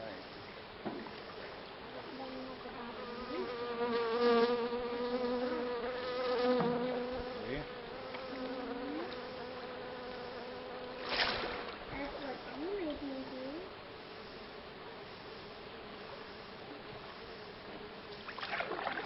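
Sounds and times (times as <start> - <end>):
flying insect buzzing: 1.1 - 19.0.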